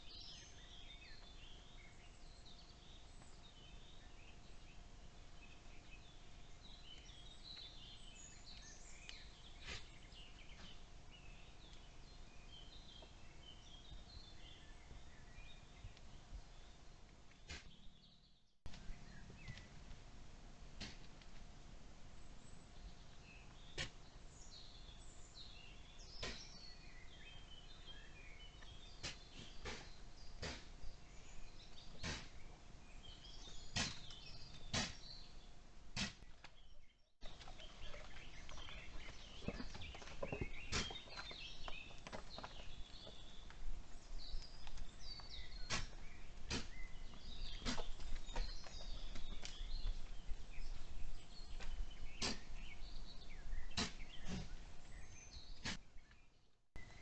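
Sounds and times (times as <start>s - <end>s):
small birds chirping: 0.0s - 19.8s, 22.1s - 57.0s.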